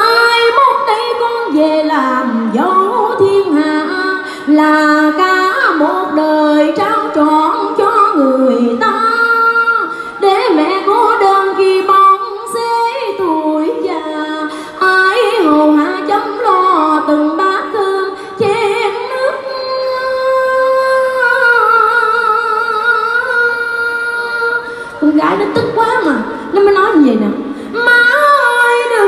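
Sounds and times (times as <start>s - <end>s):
woman singing into microphone: 0.0s - 29.0s.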